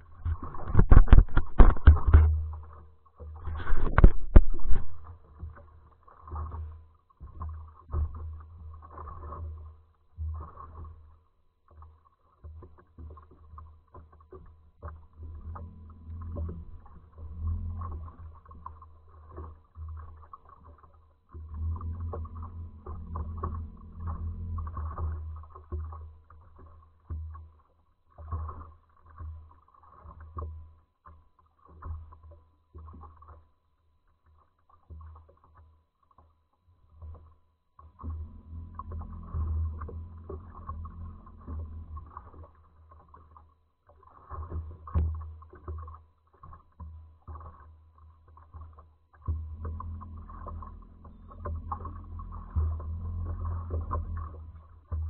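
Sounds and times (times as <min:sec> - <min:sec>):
low uneven rumble: 0:00.0 - 0:11.7, 0:13.1 - 0:29.5, 0:36.8 - 0:55.0
water slapping against boat hull: 0:00.0 - 0:55.0.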